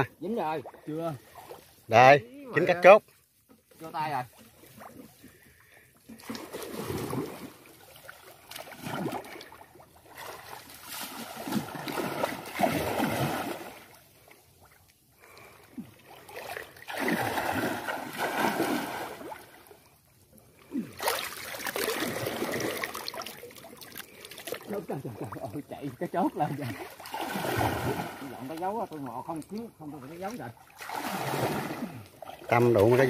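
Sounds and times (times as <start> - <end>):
shallow water sloshing and splashing: 0.3 - 2.0, 2.7 - 33.0.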